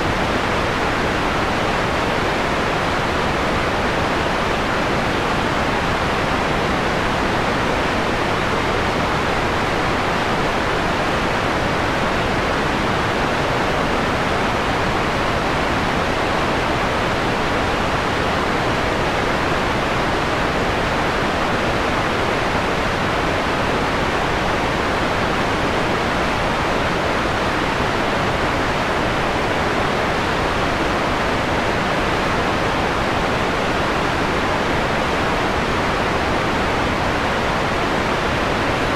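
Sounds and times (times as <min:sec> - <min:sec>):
filtered white noise hiss: 0:00.0 - 0:38.9.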